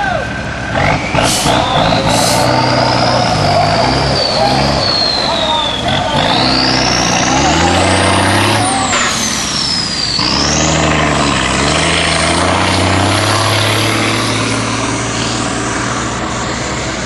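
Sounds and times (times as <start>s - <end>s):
fire truck engine revving: 0.0s - 17.0s.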